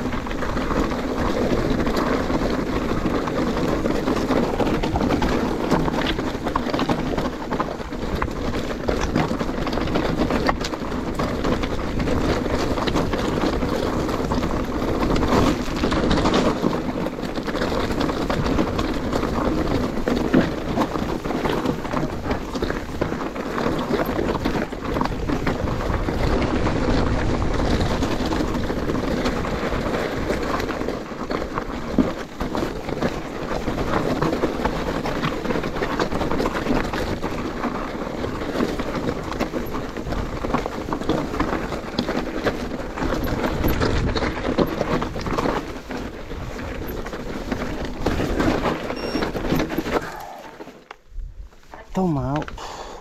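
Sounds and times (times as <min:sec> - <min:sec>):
bike rattling and knocking: 0:00.0 - 0:53.0.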